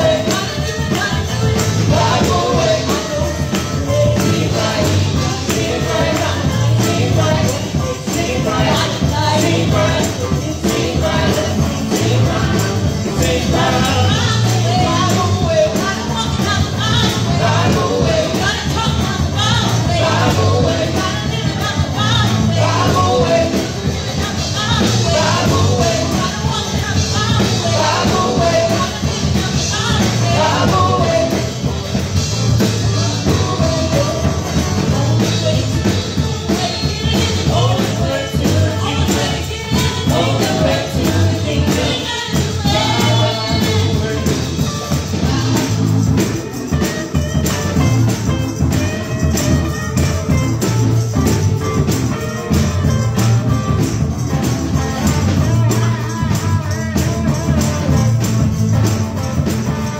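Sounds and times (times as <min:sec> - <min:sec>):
women singing gospel song: 0:00.0 - 0:50.4.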